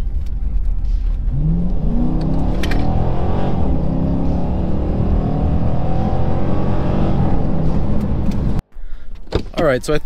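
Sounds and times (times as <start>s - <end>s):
car exhaust roaring: 0.0s - 8.6s.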